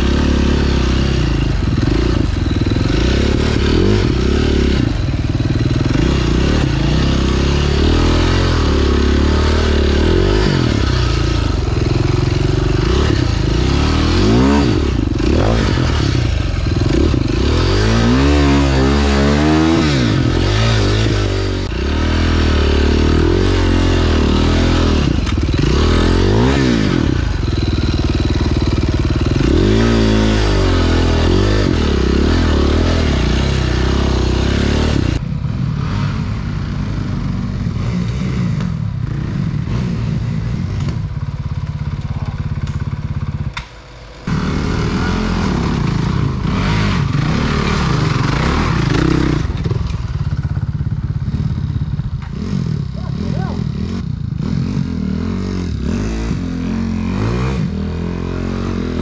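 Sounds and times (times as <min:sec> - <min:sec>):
motorcycle clatter: 0:00.0 - 0:21.9, 0:23.4 - 0:35.7, 0:37.8 - 0:54.4
motorcycle engine revving: 0:00.0 - 0:59.0.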